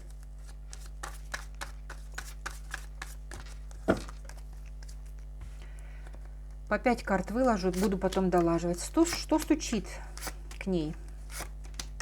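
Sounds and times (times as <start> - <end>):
cards being shuffled: 0.1 - 6.6, 7.4 - 12.0.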